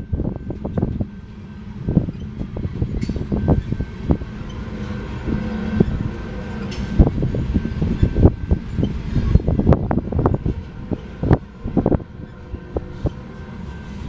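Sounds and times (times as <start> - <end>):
train wheels rumbling on rail: 0.0 - 14.0
wheels clanking over rail joints: 0.1 - 14.0.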